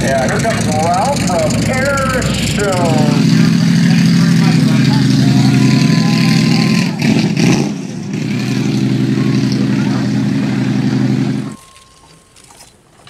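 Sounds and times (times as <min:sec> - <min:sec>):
large car engine running: 0:00.0 - 0:12.4.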